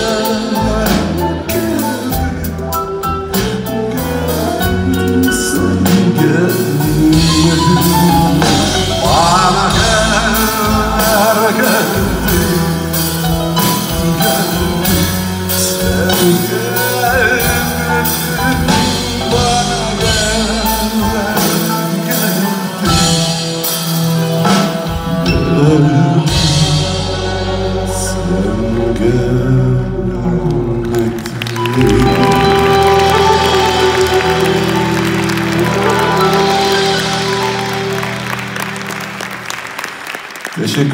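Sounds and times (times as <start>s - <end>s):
wordless singing: 0.0s - 23.5s, 24.6s - 38.2s
live band music: 0.0s - 40.9s.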